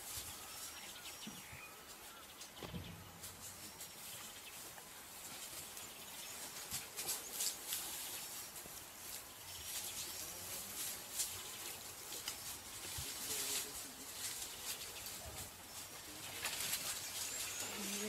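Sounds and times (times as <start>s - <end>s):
faint outdoor bush ambience: 0.0s - 18.0s.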